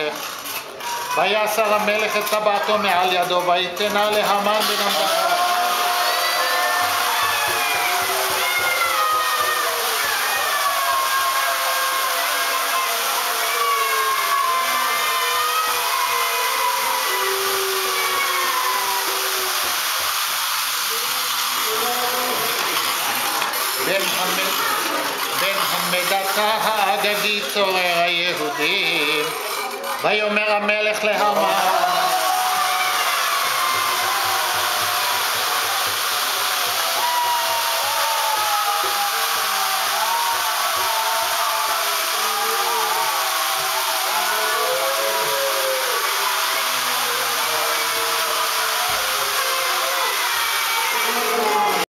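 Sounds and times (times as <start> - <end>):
ratchet noisemakers whirring: 0.0 - 51.9.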